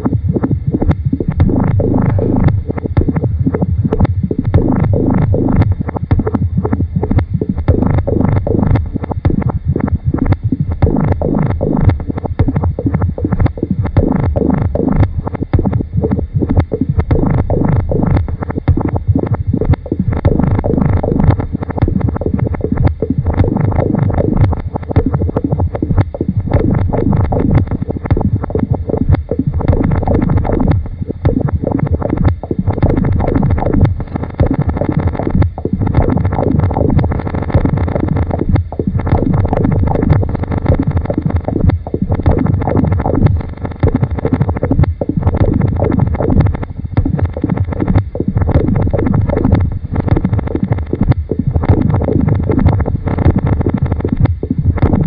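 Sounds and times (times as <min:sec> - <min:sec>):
experimental electronic noise music: 0:00.0 - 0:55.0.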